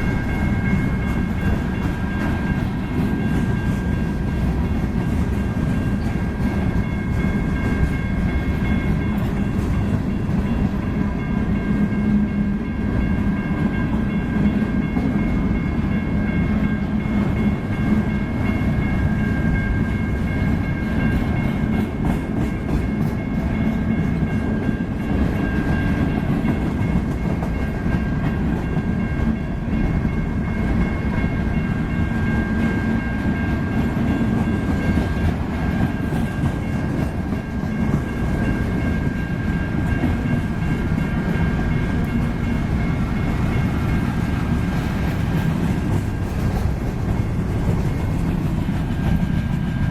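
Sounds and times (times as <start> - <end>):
freight train cars rumbling: 0.0 - 49.9.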